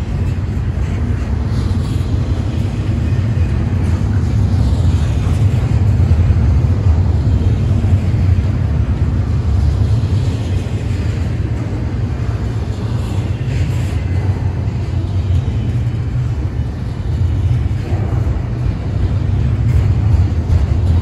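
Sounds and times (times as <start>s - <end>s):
freight train rumbling: 0.0s - 21.0s.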